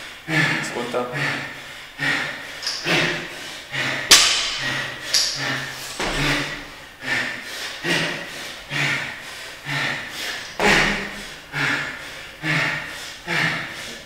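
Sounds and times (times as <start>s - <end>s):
man breathing hard with grunts: 0.0s - 14.0s.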